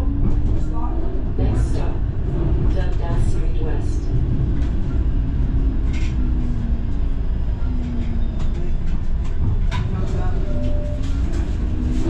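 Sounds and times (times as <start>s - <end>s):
streetcar rumbling on rails: 0.0s - 12.0s.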